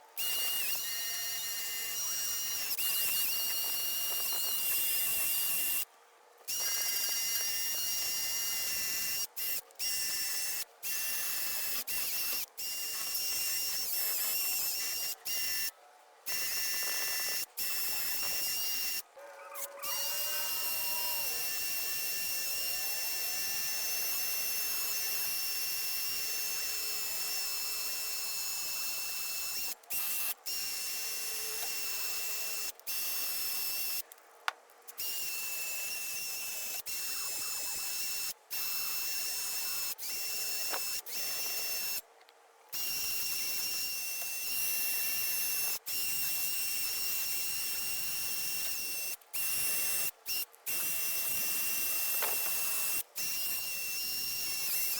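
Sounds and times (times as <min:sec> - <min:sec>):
power drill whining: 0:00.2 - 0:05.8, 0:06.5 - 0:15.7, 0:19.6 - 0:34.0, 0:35.0 - 0:42.0, 0:42.8 - 0:54.9.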